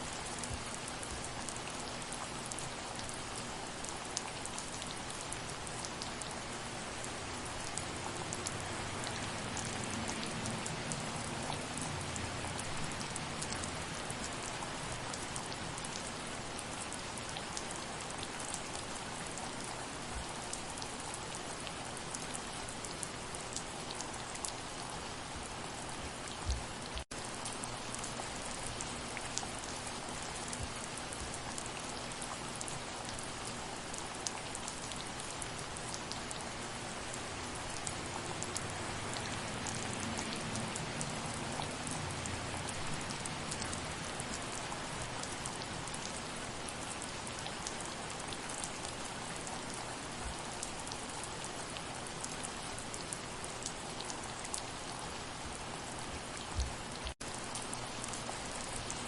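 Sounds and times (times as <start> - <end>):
raindrops ticking on a surface: 0.0 - 59.0
soft rain falling: 0.0 - 59.0.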